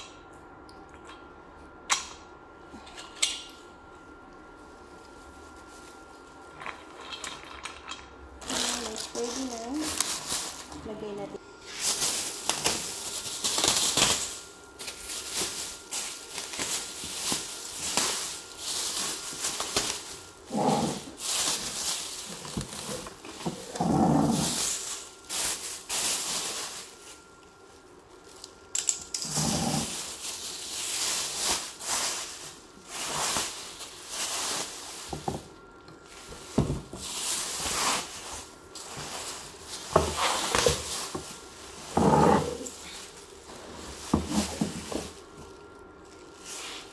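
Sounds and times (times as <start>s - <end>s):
plastic wrapping crinkling: 4.2s - 7.7s, 8.4s - 46.9s.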